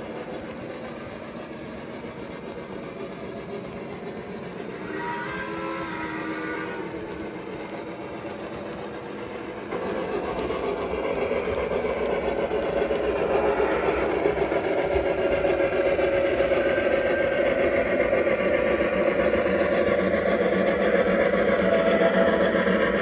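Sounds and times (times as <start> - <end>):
model train wheels rolling: 0.0 - 23.0.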